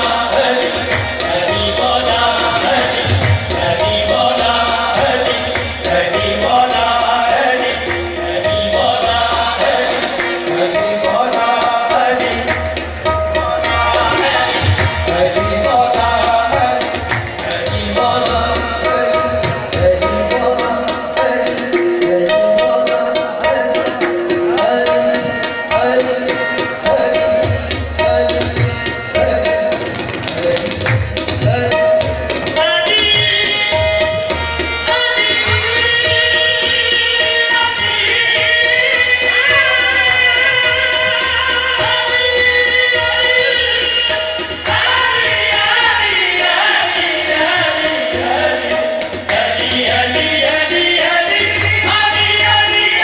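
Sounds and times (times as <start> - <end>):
harmonium notes: 0.0 - 53.0
tabla playing fast rhythm: 0.0 - 53.0.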